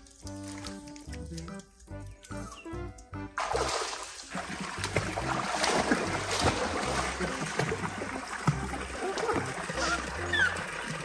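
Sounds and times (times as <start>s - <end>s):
pool water splashing: 0.0s - 1.9s, 3.2s - 11.0s.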